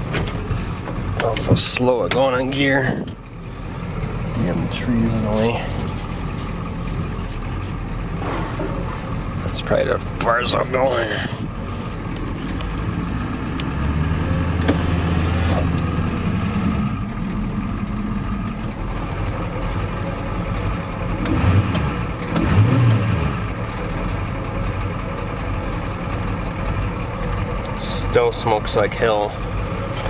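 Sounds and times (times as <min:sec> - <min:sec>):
diesel engine running rough: 0:00.0 - 0:30.0.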